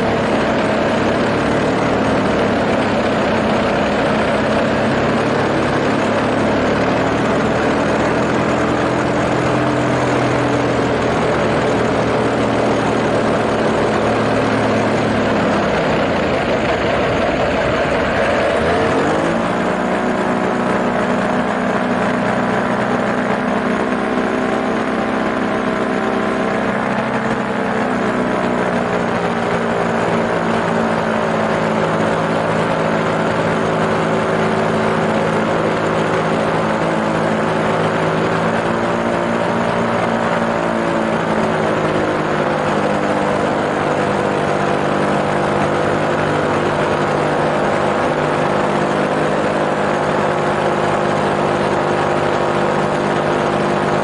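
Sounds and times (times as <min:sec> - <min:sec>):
light aircraft engine running: 0:00.0 - 0:54.0.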